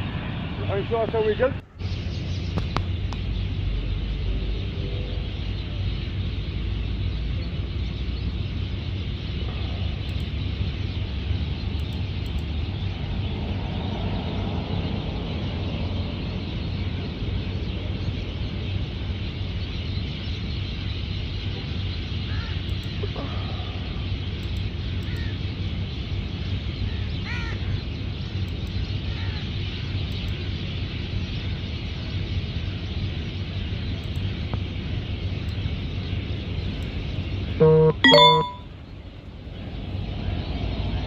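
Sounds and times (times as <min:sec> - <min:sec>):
low rumbling background noise: 0:00.0 - 0:41.0.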